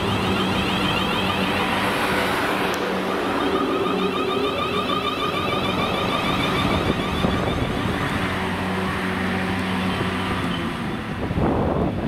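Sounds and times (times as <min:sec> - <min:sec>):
high whine: 0:00.0 - 0:11.5
mechanical hum with pitched tones: 0:00.0 - 0:11.5
train running: 0:00.0 - 0:12.0.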